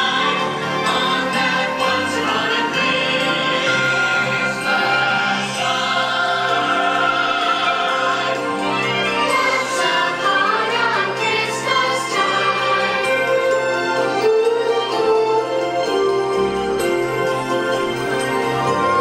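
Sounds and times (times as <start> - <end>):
choir singing held chords: 0.0 - 15.4.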